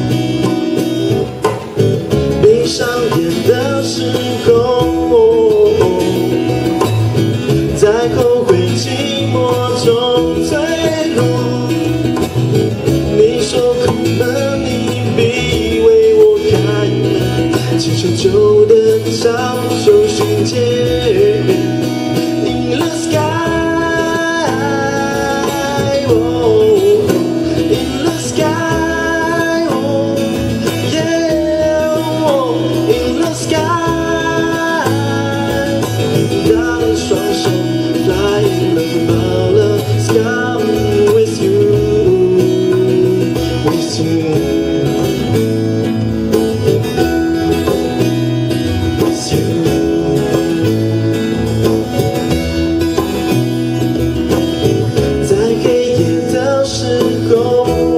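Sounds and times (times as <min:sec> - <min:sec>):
guitar: 0:00.0 - 0:57.9
live band music: 0:00.0 - 0:57.9.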